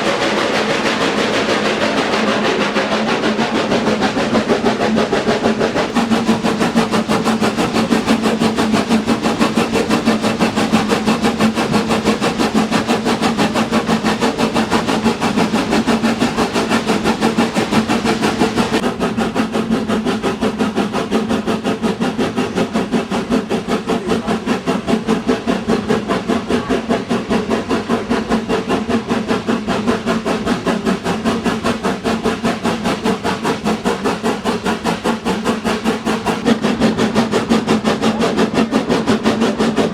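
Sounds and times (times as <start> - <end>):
rhythmic train beat: 0.0 - 39.9
train running: 0.0 - 39.9.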